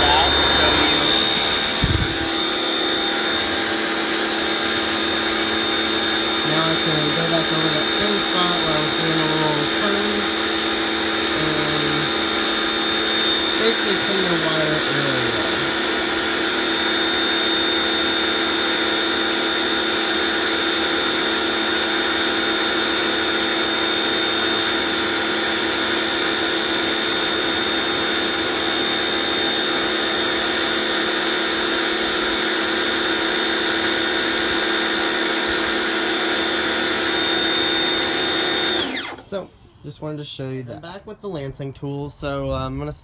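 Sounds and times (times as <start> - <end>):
water jet hissing on concrete: 0.0 - 40.3
pressure washer motor humming: 0.0 - 40.5.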